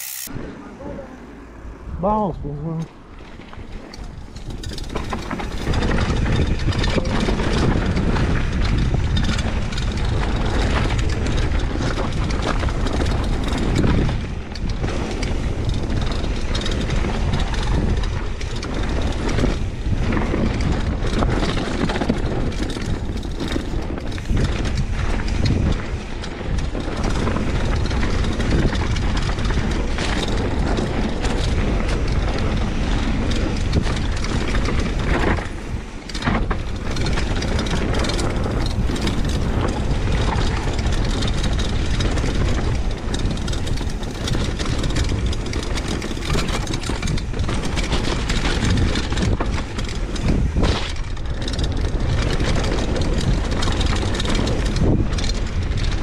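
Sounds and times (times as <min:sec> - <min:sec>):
bike rattling over bumps: 0:02.9 - 0:56.0
bike tyres rumbling on dirt: 0:03.0 - 0:56.0.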